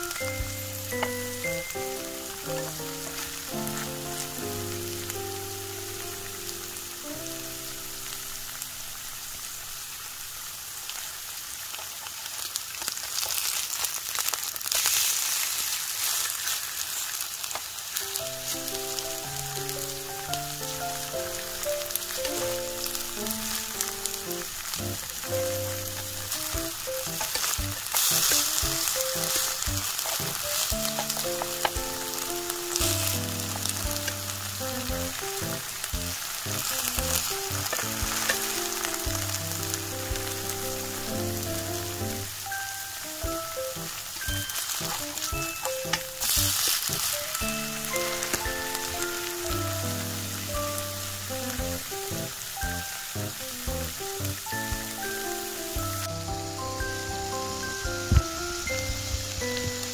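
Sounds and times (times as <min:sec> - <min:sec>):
potatoes sizzling in hot oil: 0:00.0 - 0:59.9.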